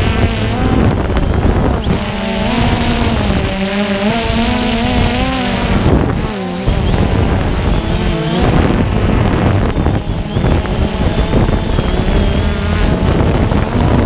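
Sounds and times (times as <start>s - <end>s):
drone motors and propellers humming: 0.0s - 14.0s.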